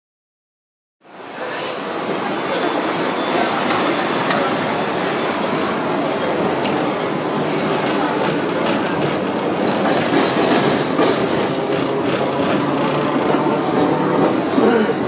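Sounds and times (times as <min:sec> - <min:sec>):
tram rumbling on rails: 0:01.0 - 0:15.0.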